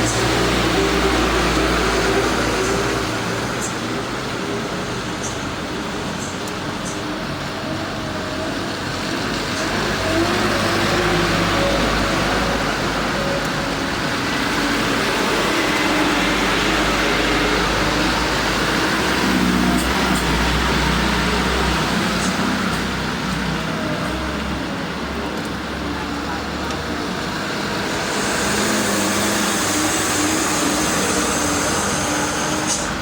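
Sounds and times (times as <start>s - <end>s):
heavy rain: 0.0s - 33.0s
vehicle engine under load: 0.0s - 33.0s
wet road noise: 0.0s - 33.0s.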